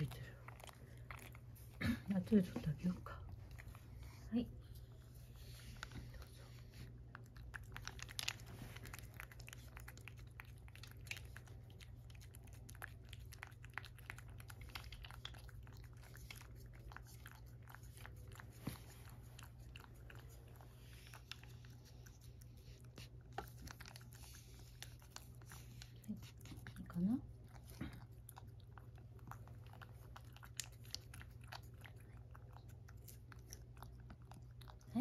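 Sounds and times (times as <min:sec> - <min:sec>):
cat licking: 0:00.0 - 0:35.0.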